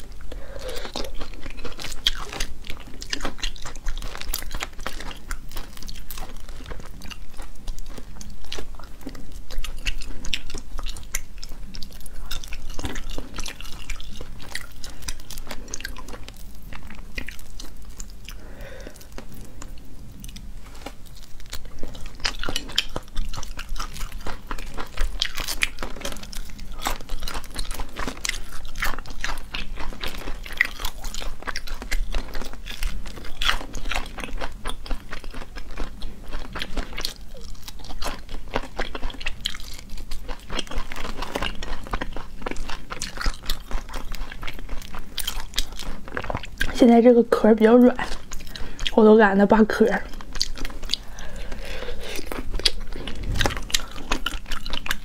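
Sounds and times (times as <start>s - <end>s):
chewing and crunching: 0.0s - 55.0s.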